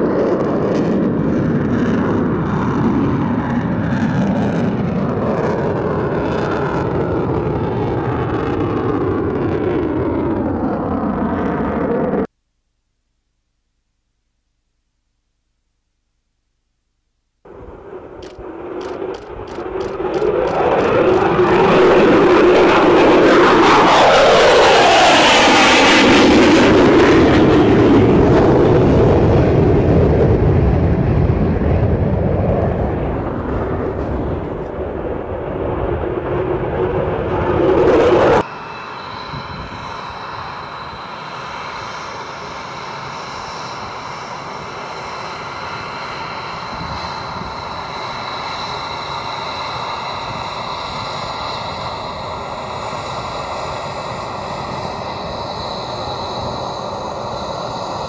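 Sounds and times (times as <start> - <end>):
jet engine whine: 0.0 - 12.3, 17.5 - 58.0
loud jet roar: 0.0 - 12.3, 17.5 - 58.0.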